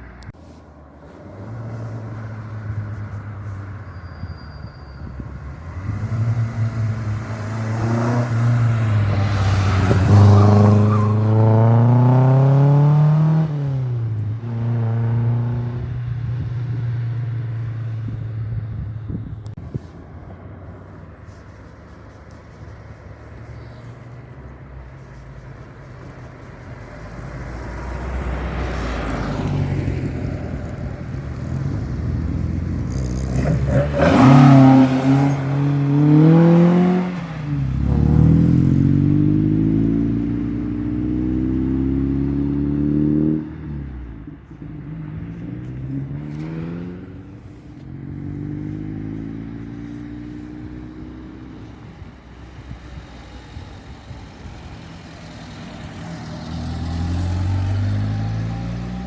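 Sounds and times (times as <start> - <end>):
cars accelerating past: 0.0 - 59.0.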